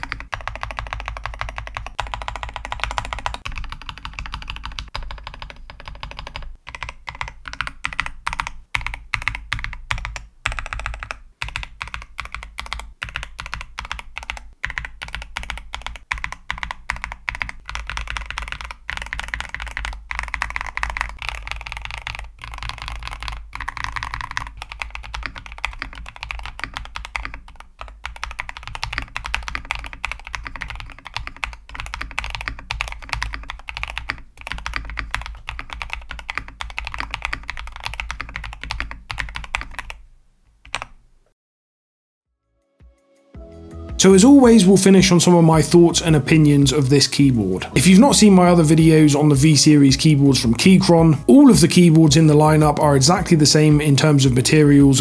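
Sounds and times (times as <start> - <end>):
mechanical keyboard typing: 0.0 - 40.0, 40.6 - 41.0, 44.2 - 55.0.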